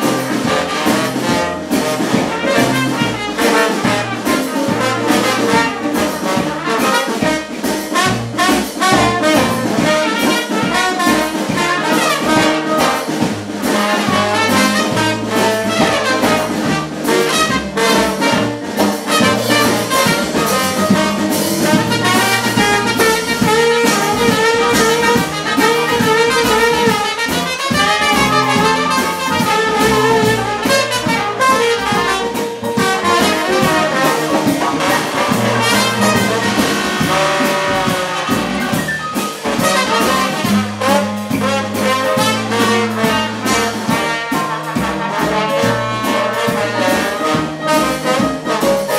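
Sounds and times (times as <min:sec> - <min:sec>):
drums: 0:00.0 - 0:48.9
trombone: 0:00.0 - 0:48.9
trumpet: 0:00.0 - 0:48.9
walking bass: 0:00.0 - 0:48.9.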